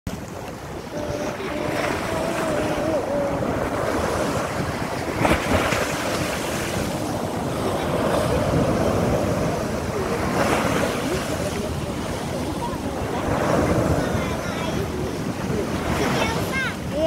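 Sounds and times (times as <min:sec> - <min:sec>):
sea waves breaking on beach: 0:00.1 - 0:17.0.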